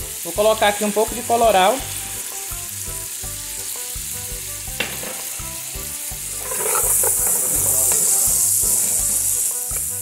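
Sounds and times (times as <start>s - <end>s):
onion and garlic sizzling: 0.0s - 10.0s.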